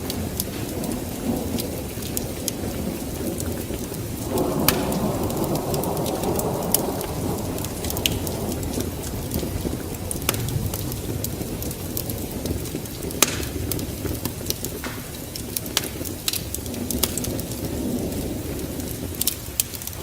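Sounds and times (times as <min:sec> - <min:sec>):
steady rain: 0:00.0 - 0:20.0
thunder rumbling: 0:00.0 - 0:20.0
wood fire crackles: 0:00.0 - 0:20.0.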